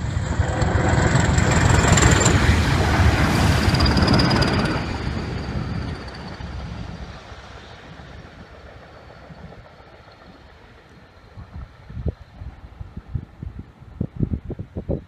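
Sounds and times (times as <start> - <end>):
train rumbling: 0.0 - 14.4.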